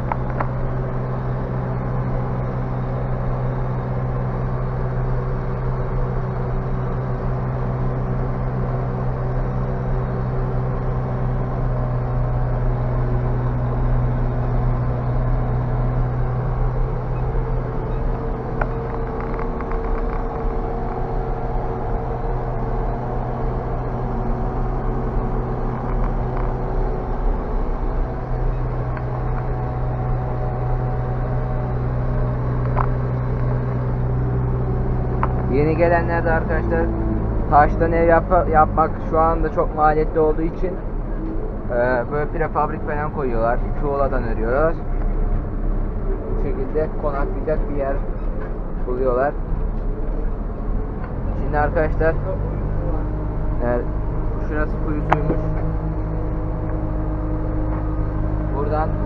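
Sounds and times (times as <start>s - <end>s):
diesel engine low drone: 0.0s - 59.0s.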